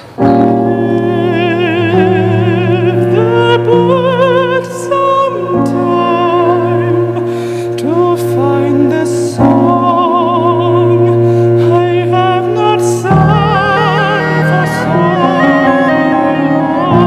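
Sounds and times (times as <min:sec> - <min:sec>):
operatic singing with vibrato: 0:00.0 - 0:17.0.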